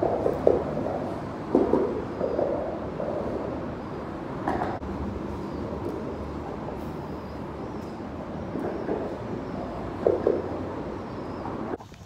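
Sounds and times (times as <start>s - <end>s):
road traffic rumble overhead: 0.0s - 12.0s.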